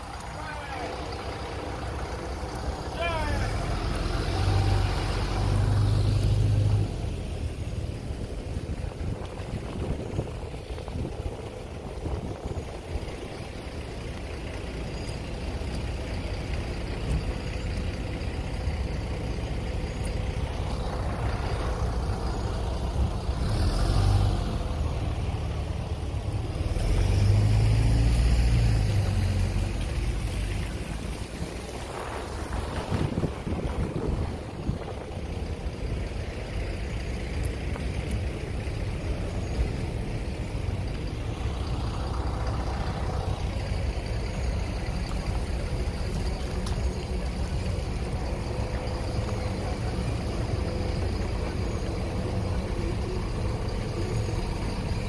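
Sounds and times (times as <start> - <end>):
traffic on wet streets: 0.0 - 55.0.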